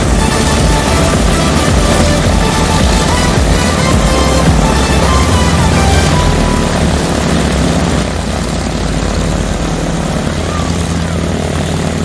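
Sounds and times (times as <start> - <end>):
propeller airplane engine drone: 0.0 - 12.0.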